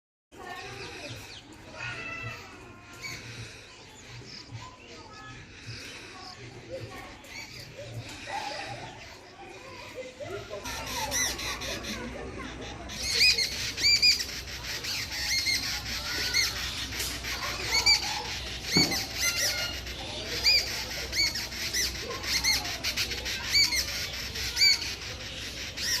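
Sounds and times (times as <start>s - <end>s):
birds giving harsh calls: 0.4s - 26.0s.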